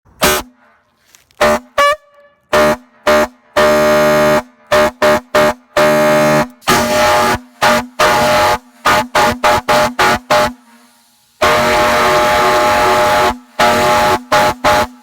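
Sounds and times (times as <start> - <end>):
fire truck air horn blasts: 0.1 - 15.0.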